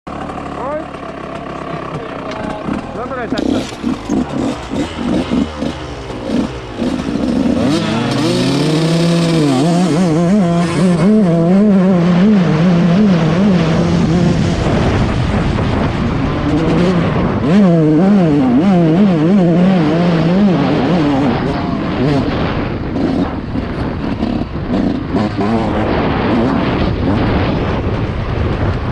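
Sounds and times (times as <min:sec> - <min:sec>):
motocross bike engine revving: 0:00.1 - 0:28.6.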